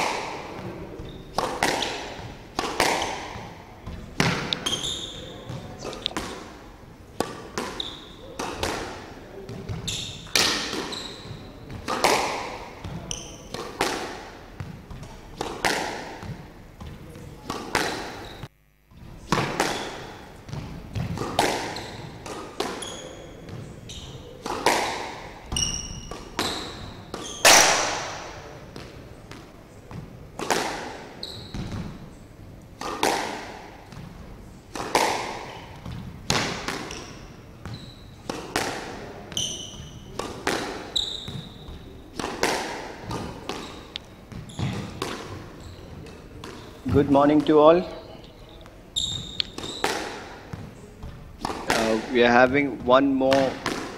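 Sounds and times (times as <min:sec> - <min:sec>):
squash ball hits echoing: 0:00.0 - 0:06.6, 0:07.2 - 0:18.4, 0:19.0 - 0:32.1, 0:32.7 - 0:48.0, 0:48.7 - 0:53.9.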